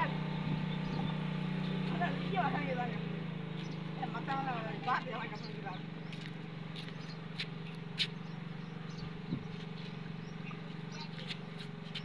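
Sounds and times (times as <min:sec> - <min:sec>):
low machine hum: 0:00.0 - 0:11.6.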